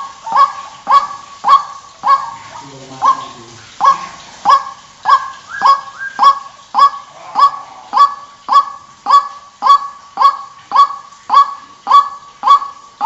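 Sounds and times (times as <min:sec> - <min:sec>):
waterhen honking calls: 0:00.0 - 0:13.0.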